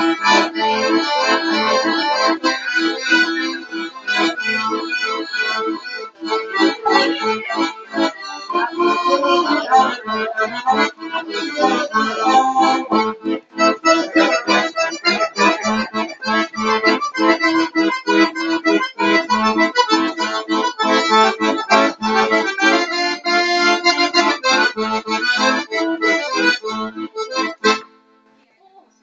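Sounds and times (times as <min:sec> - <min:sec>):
accordion playing rhythmic chords: 0:00.0 - 0:28.3.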